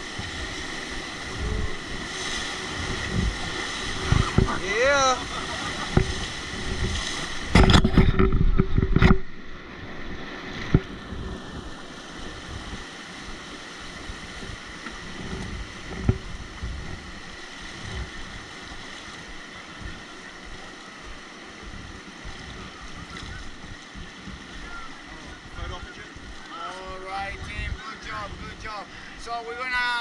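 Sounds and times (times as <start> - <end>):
wind on microphone: 0.0 - 28.7
river water rushing: 0.0 - 30.0.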